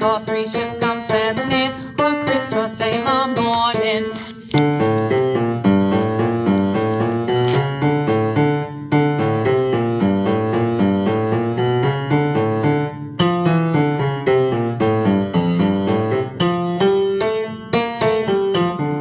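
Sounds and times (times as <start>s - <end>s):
piano playing chords and melody: 0.0s - 19.0s.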